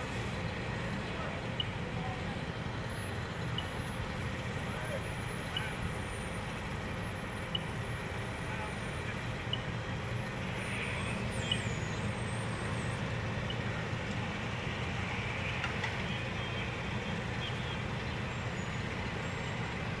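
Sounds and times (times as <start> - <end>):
fire truck engine rumbling: 0.0 - 20.0.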